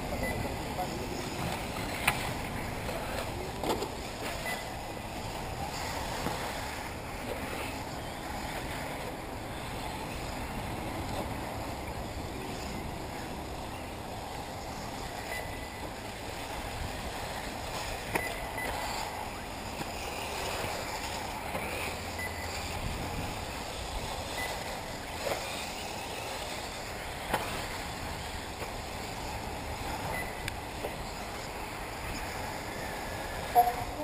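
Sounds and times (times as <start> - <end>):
rc buggies running: 0.0 - 34.0.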